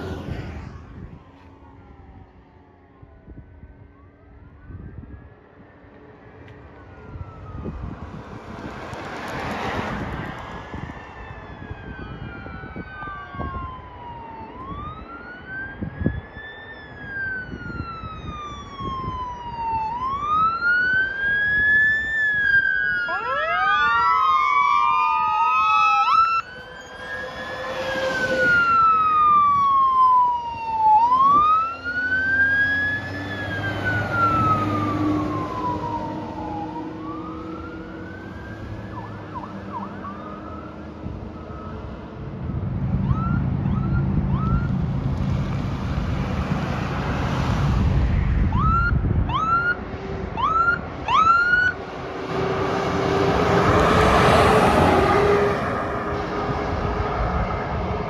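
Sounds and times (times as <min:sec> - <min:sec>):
fire engine sirens wailing: 0:00.0 - 0:58.0
vehicles passing: 0:00.0 - 0:58.0.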